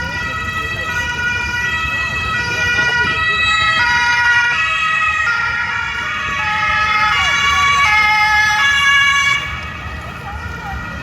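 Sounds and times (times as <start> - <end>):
road traffic hum: 0.0 - 11.0
two-tone police siren: 0.0 - 11.0.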